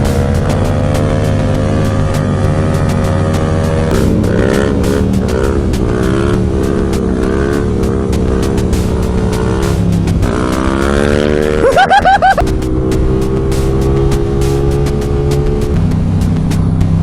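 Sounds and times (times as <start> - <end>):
motorcycle engine running: 0.0 - 17.0
motorcycle revving: 0.0 - 17.0.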